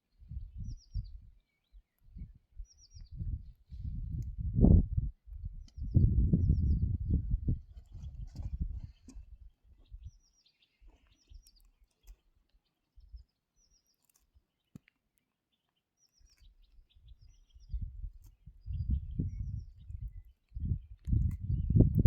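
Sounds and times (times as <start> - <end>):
small bird singing: 0.0 - 4.2, 5.4 - 22.0.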